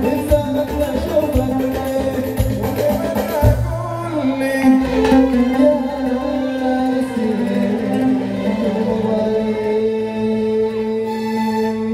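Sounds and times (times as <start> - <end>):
keyboard and plucked strings music: 0.0 - 11.9.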